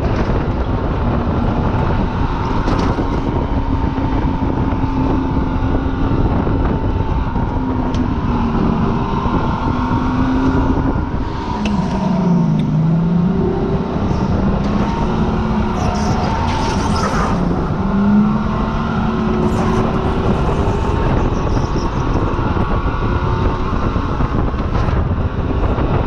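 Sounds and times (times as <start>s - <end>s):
car engine running hard: 0.0s - 26.0s
wind and road noise: 0.0s - 26.0s.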